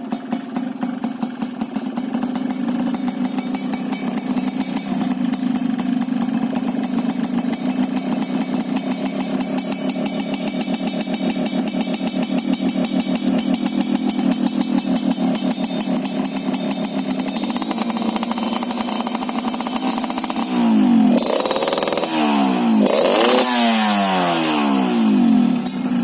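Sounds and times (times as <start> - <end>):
two-stroke motorcycle engine idling: 0.0 - 26.0.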